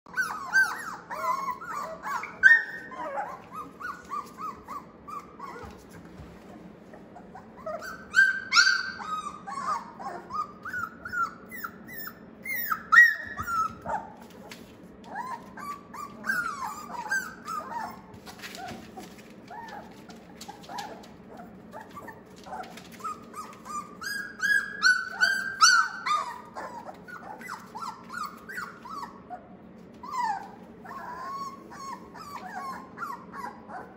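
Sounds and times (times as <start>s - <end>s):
puppies whimpering and yipping: 0.1s - 6.1s, 7.0s - 33.9s.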